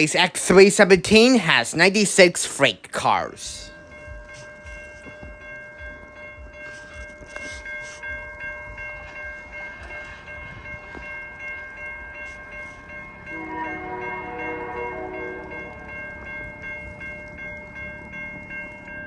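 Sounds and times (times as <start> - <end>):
railway crossing bell ringing: 0.0 - 19.0.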